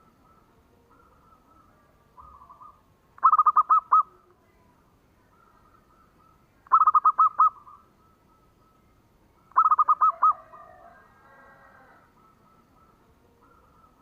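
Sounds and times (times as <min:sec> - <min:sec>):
dove cooing: 0:00.0 - 0:04.3, 0:05.2 - 0:08.8, 0:09.4 - 0:14.0
faint bird chirping: 0:00.0 - 0:14.0.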